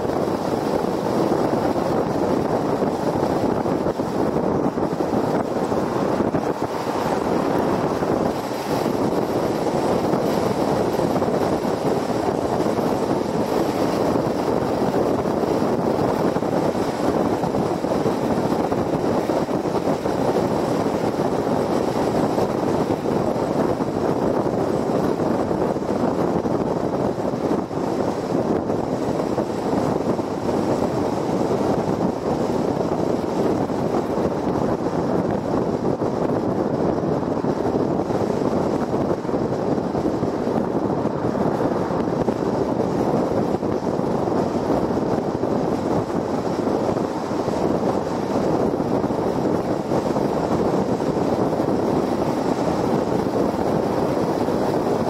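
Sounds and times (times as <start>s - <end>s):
tyres rushing on pavement: 0.0s - 55.0s
wind noise: 0.0s - 55.0s.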